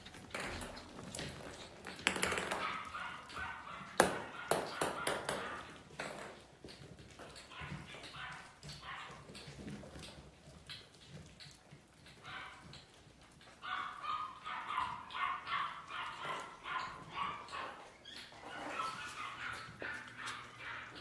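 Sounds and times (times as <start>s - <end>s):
puppies yapping and yipping: 0.0s - 21.0s.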